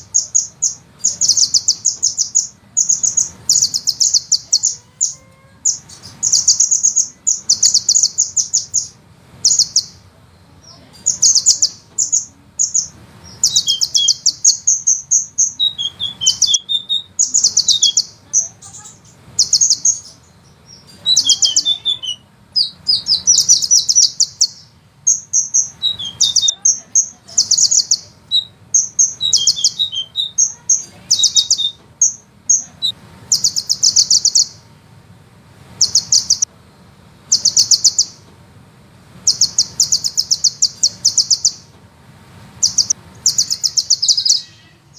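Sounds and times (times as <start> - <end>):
bird high-pitched rolling trills: 0.0 - 34.7, 35.8 - 36.5, 37.3 - 38.2, 39.2 - 41.7, 42.6 - 44.9.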